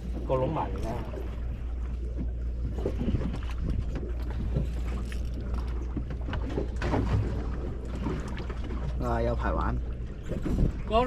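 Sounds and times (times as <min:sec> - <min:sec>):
boat engine hum: 0:00.0 - 0:11.0
water and wind noise: 0:00.0 - 0:11.0.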